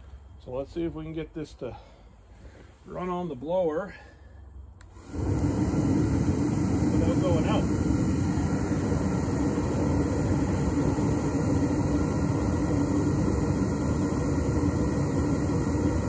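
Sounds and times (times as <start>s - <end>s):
blower hum: 0.0s - 16.0s
propane burner roaring: 1.5s - 16.0s.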